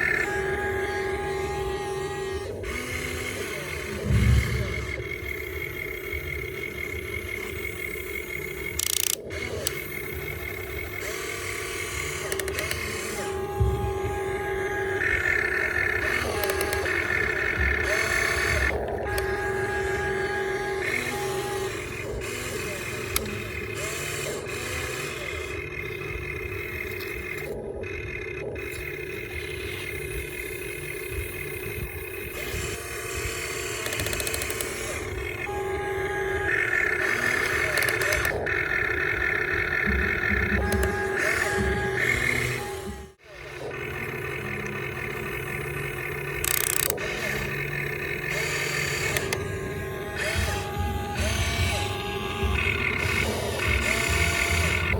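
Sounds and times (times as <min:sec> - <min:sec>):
small electric motors whining: 0:00.0 - 0:54.9.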